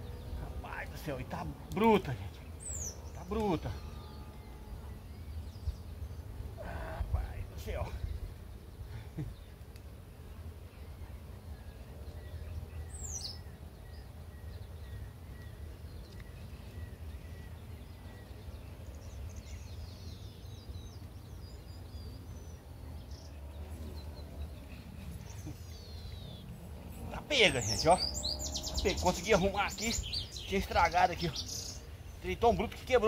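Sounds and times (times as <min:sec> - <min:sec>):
birds chirping: 0:00.0 - 0:33.0
low outdoor rumble: 0:00.0 - 0:33.0.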